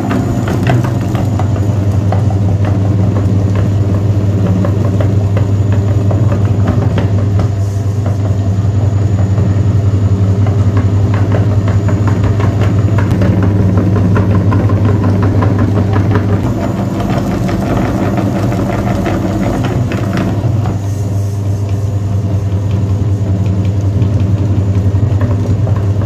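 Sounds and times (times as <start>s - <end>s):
meat grinder humming: 0.0s - 26.0s.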